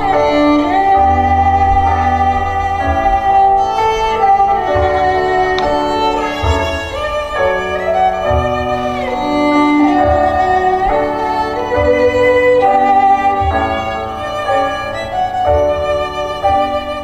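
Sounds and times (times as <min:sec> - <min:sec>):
sustained instrumental melody: 0:00.0 - 0:17.0.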